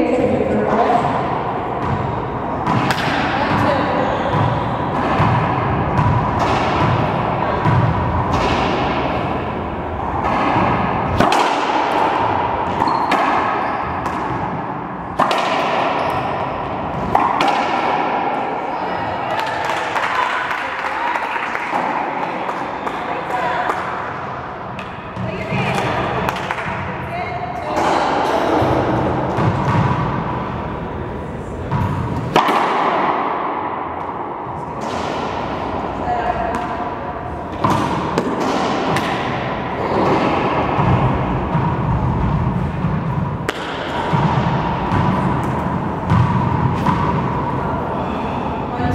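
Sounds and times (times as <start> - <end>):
racquetball hits echoing: 0.0 - 48.7
steady background noise: 0.0 - 48.9.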